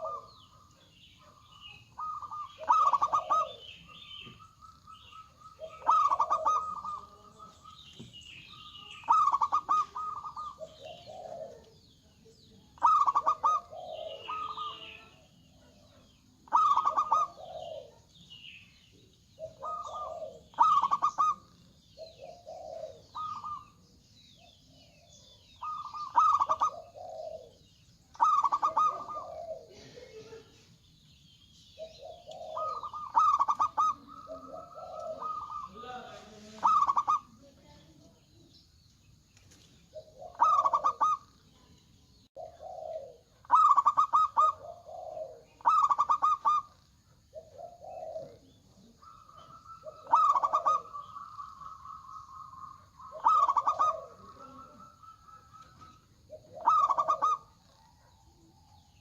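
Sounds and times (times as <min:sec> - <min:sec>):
doves cooing: 0:00.0 - 0:38.6, 0:39.5 - 0:41.7, 0:42.3 - 0:59.0.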